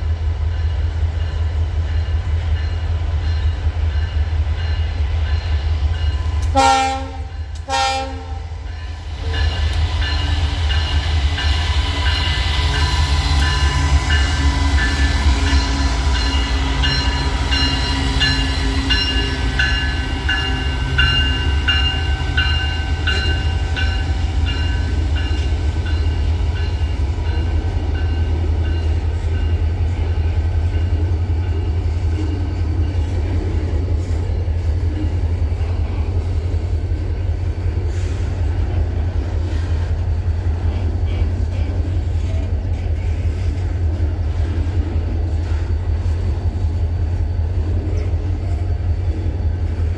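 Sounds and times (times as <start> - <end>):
diesel locomotive rumble: 0.0 - 49.9.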